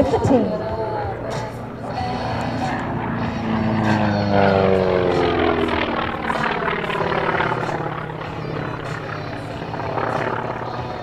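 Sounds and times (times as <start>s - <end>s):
propeller plane engine passing: 0.0s - 11.0s.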